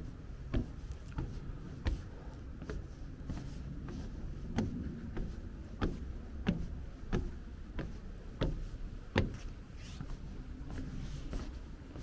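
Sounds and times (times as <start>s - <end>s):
footsteps walking: 0.0s - 12.0s
steady low rumble: 0.0s - 12.0s.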